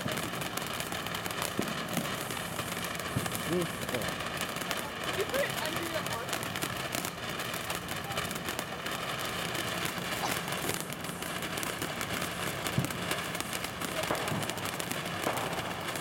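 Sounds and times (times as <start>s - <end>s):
firework fountain hissing and crackling: 0.0s - 16.0s.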